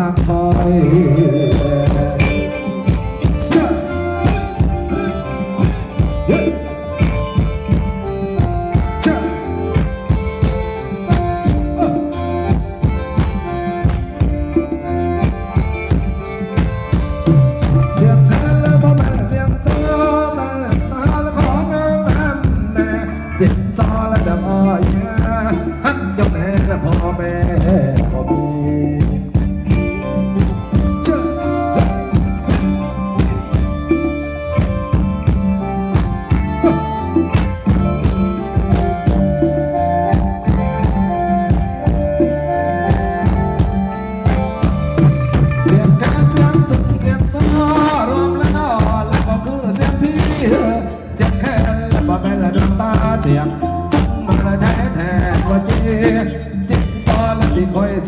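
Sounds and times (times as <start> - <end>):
folk dance music from live band: 0.0 - 58.0
steady drum beat: 0.0 - 58.0.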